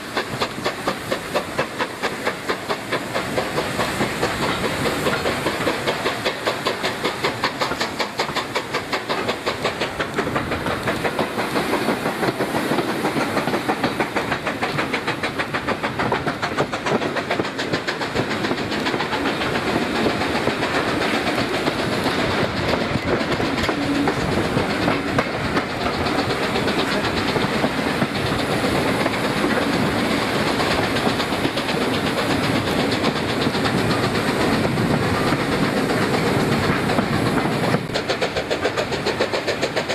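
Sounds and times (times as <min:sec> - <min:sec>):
steam hiss: 0:00.0 - 0:39.9
train wheels clattering on track: 0:00.0 - 0:39.9.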